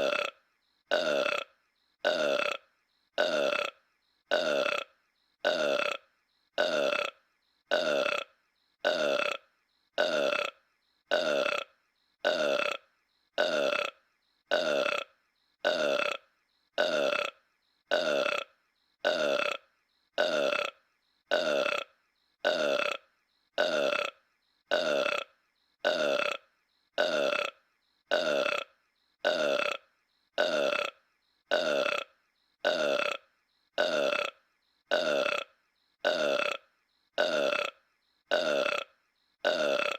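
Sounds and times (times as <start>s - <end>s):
cartoon character burping: 0.0s - 39.9s.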